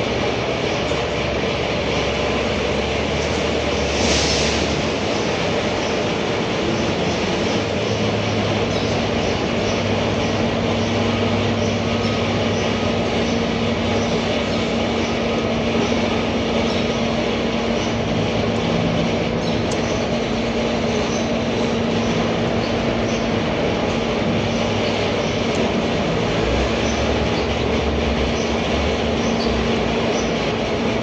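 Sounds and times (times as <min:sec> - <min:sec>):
machine humming and droning: 0:00.0 - 0:31.0.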